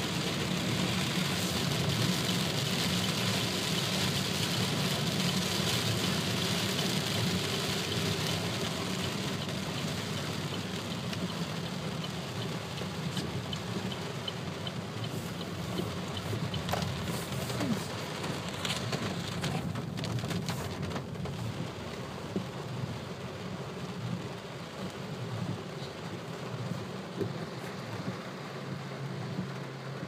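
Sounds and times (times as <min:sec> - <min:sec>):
car engine hum: 0:00.0 - 0:30.0
heavy rain on car roof: 0:00.0 - 0:30.0
tyres on wet road: 0:00.0 - 0:30.0.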